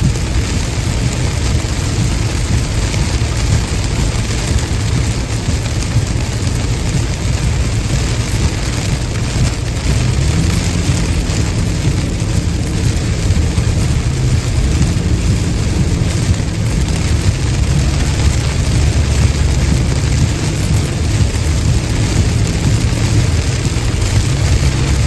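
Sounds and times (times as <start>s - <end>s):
rain and spray hissing: 0.0s - 25.0s
road rumble and tyre noise: 0.0s - 25.0s.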